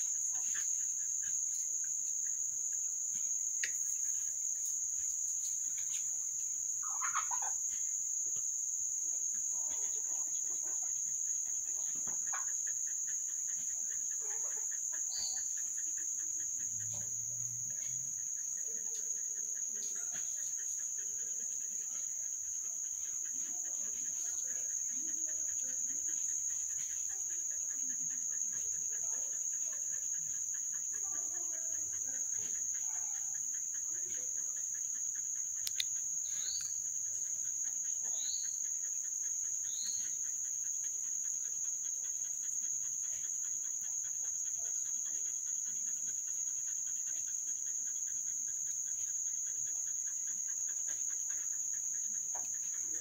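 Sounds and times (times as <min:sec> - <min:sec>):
crickets droning: 0:00.0 - 0:53.0.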